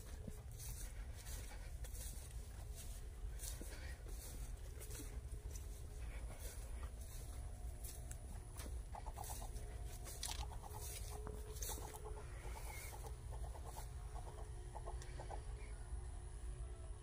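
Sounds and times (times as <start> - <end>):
footsteps on dry grass: 0.0 - 15.4
chickens clucking: 0.0 - 17.0.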